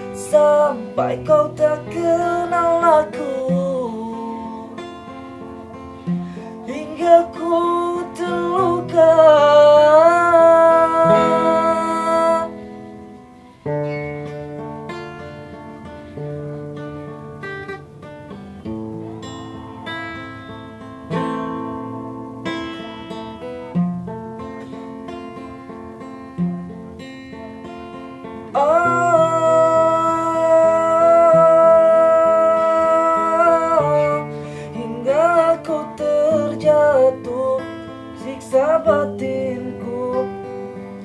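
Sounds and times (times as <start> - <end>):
acoustic guitar plucking: 0.0 - 41.0.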